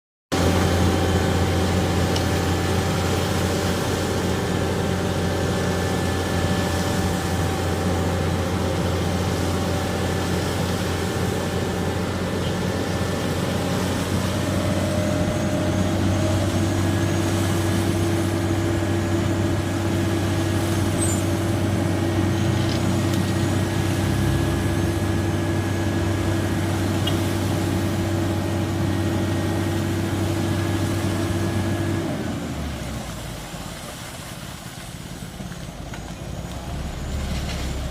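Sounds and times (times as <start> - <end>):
vehicle engine running: 0.3 - 37.9.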